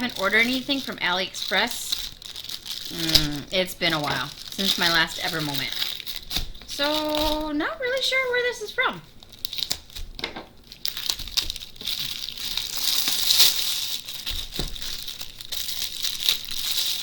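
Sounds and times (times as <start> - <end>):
packaging crinkling and tearing: 0.0 - 17.0.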